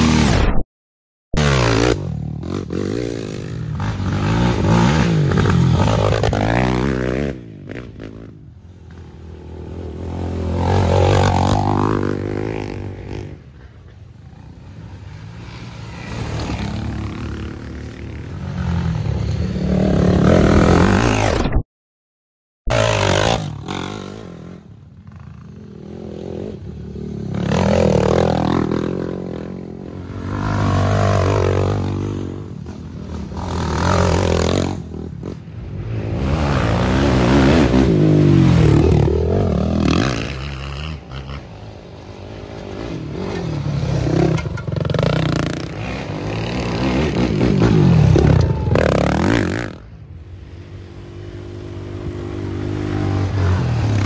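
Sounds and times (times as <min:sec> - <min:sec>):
quad engines revving past: 0:01.4 - 0:21.3, 0:22.7 - 0:54.0.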